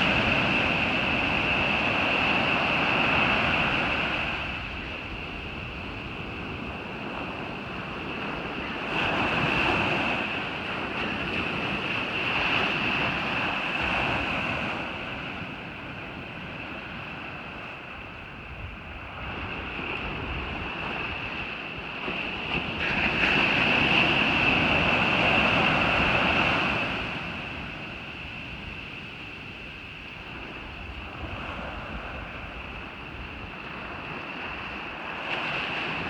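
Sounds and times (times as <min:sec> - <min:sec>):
ocean surf washing onto beach: 0:00.0 - 0:36.0.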